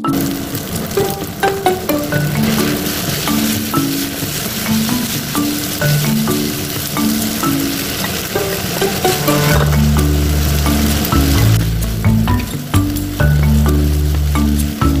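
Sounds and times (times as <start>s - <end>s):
light background music: 0.0s - 15.0s
noodles sizzling in frying pan: 0.1s - 15.0s.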